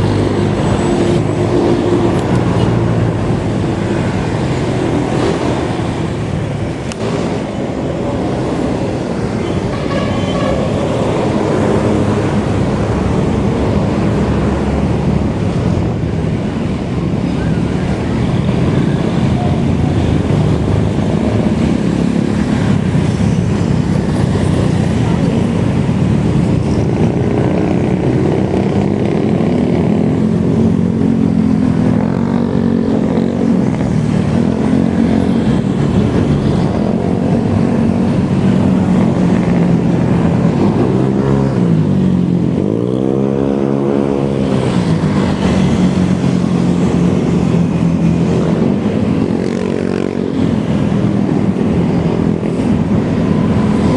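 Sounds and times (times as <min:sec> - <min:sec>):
road and wind noise: 0:00.0 - 0:53.9.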